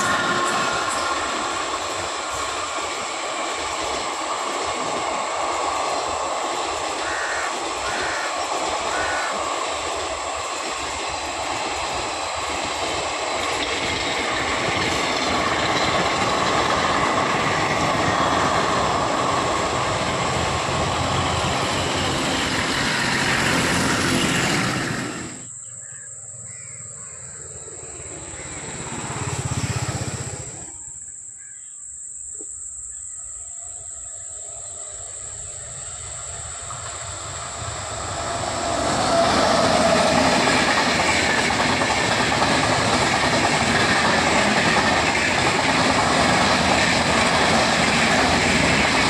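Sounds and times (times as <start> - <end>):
train wheels rumbling and clattering: 0.0 - 25.5, 27.7 - 30.6, 34.9 - 49.0
outdoor ambience: 0.0 - 49.0.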